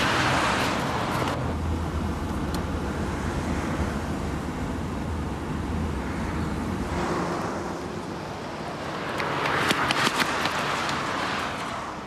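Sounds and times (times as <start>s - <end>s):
car road noise on wet road: 0.0s - 12.0s.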